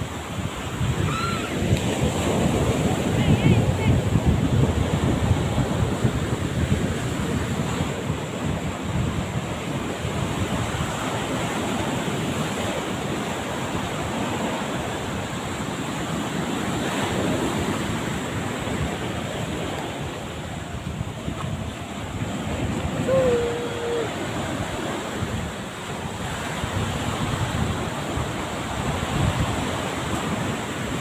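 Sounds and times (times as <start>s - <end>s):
surf breaking on beach: 0.0s - 31.0s
wind buffeting microphone: 0.0s - 31.0s.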